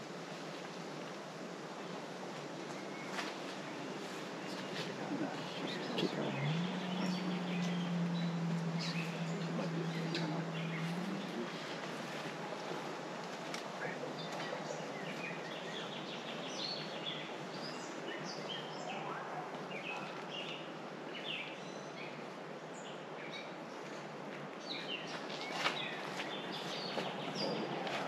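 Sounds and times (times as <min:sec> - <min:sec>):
birds chirping: 0:02.6 - 0:24.0, 0:24.6 - 0:28.0.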